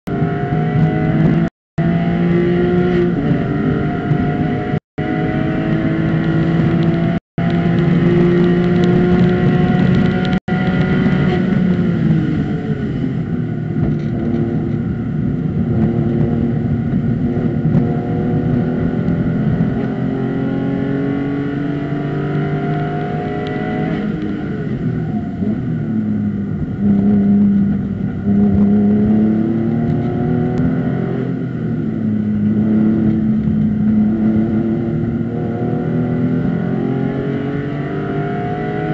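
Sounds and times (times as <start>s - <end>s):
race car engine at high revs: 0.1s - 38.9s.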